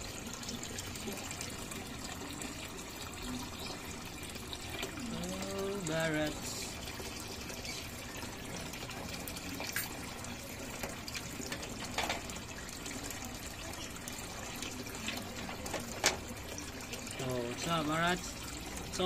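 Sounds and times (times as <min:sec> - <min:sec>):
sharp water drips: 0:00.0 - 0:19.0
water trickling and bubbling: 0:00.0 - 0:19.0.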